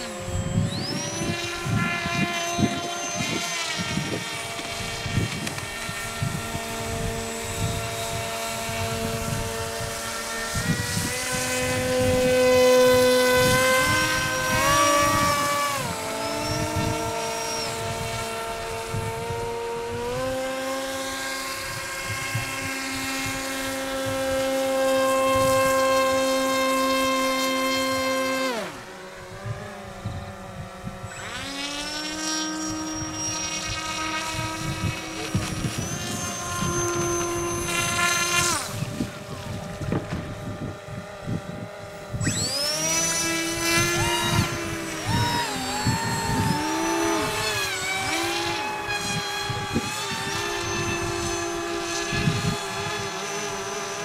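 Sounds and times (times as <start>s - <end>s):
model electric motor whining: 0.0s - 54.0s.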